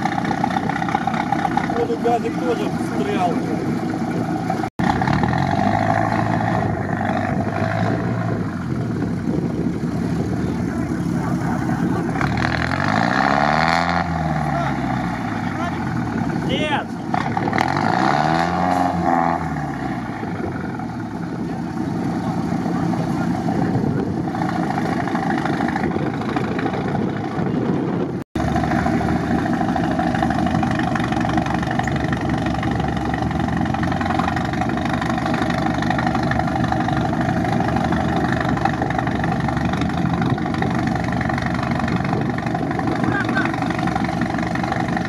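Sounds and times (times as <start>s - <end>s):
off-road vehicle engine running: 0.0s - 45.0s.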